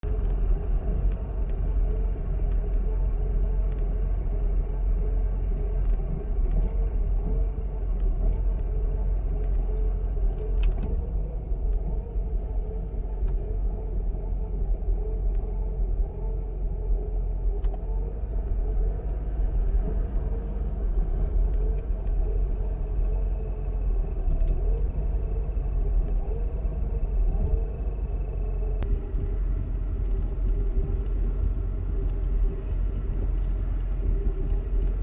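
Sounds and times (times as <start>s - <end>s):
car engine idling roughly: 0.0s - 11.4s, 17.7s - 35.0s.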